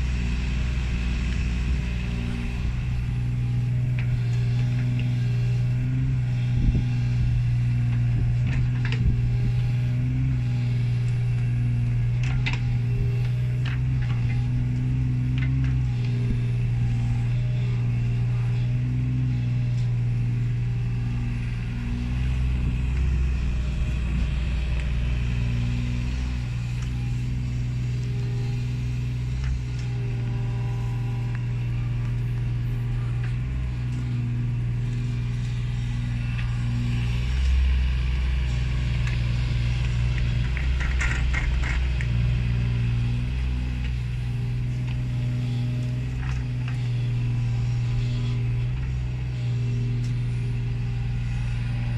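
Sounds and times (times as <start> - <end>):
excavator diesel engine running: 0.0 - 51.9
hydraulics working: 0.0 - 51.9.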